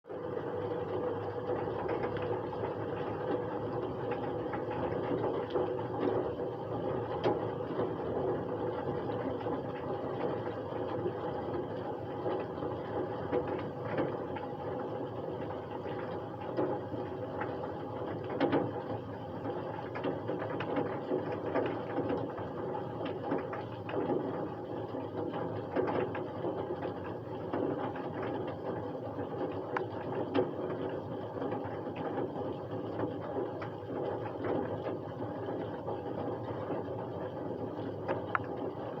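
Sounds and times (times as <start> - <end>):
rain drops tapping: 0.2 - 39.0.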